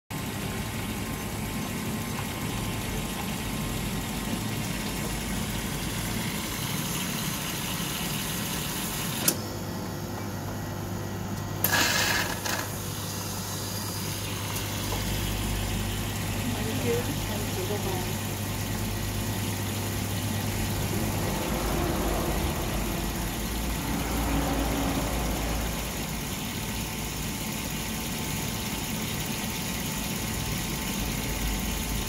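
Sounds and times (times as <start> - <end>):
coffee machine humming: 0.1 - 32.0.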